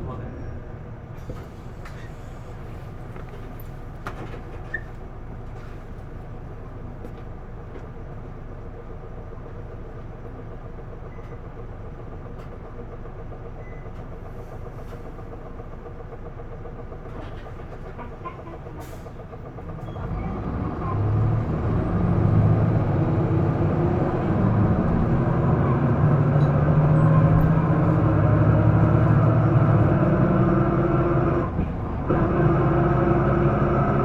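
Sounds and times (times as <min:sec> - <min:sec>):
bus diesel engine rumbling: 0:00.0 - 0:34.0.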